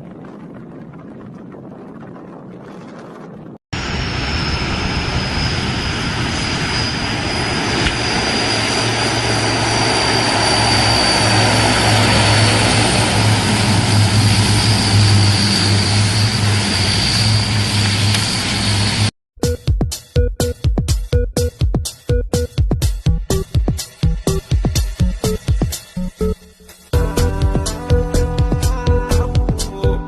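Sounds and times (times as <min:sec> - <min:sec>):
aircraft engines running: 0:00.0 - 0:19.1, 0:22.3 - 0:30.0.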